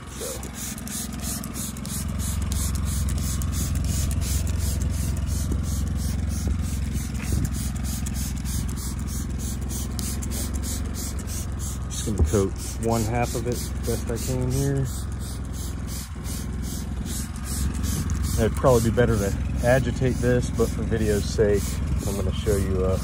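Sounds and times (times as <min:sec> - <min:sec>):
spray bottle squirting: 0:00.0 - 0:22.4
truck engine idling: 0:00.0 - 0:23.0.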